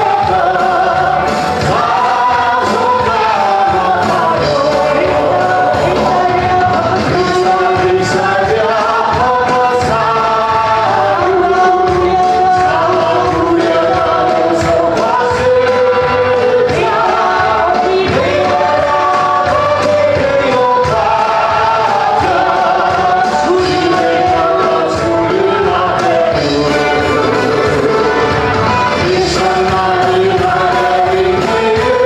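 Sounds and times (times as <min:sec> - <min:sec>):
congregation singing: 0:00.0 - 0:32.0
instrumental accompaniment with beat: 0:00.0 - 0:32.0.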